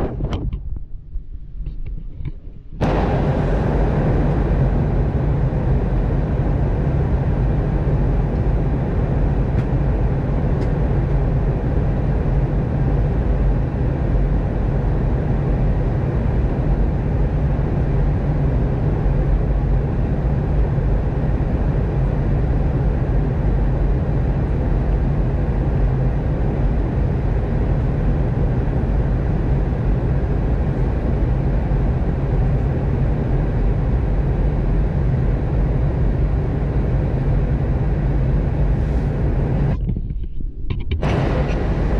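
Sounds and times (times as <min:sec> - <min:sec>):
airliner cabin engine noise: 0:00.0 - 0:41.9.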